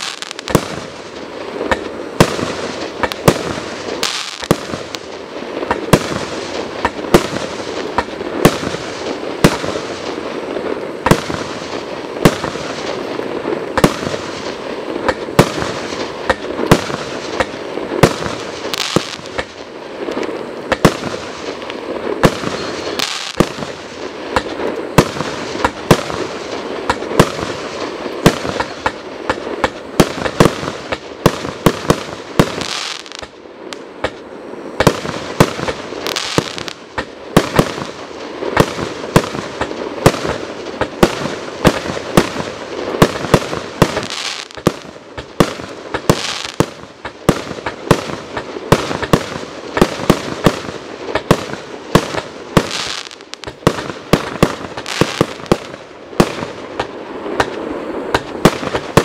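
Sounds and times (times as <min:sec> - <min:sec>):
fireworks firing in a barrage: 0:00.0 - 0:59.0.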